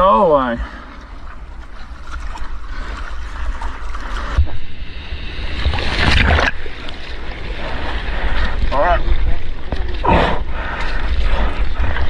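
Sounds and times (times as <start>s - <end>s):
ocean surf: 0.0s - 12.0s
rush of water: 0.0s - 12.0s.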